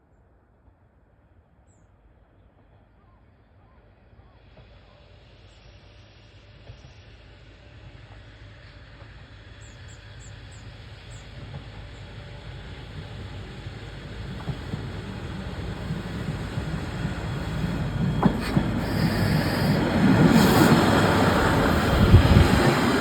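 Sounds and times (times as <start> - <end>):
diesel railcar rumble: 4.2 - 23.0.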